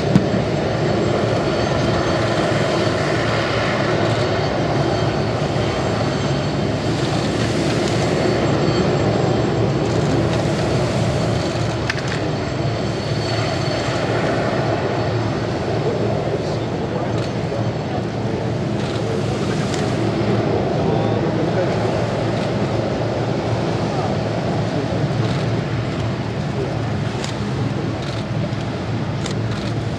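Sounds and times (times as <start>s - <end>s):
turboprop engines running: 0.0s - 29.9s.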